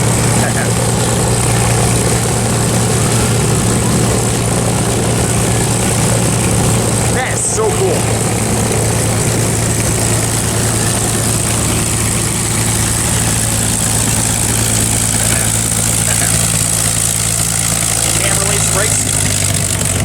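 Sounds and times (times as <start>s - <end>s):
piston aircraft engine idling: 0.0s - 20.0s.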